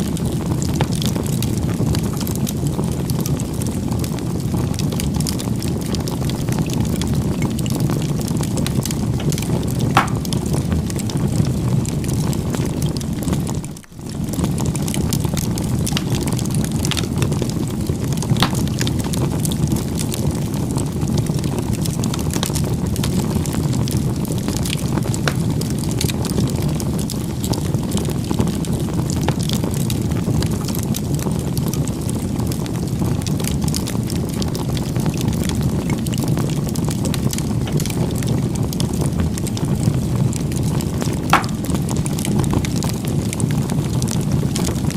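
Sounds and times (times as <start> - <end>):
bonfire flames rushing: 0.0 - 44.9
burning wood crackling and popping: 0.0 - 44.9.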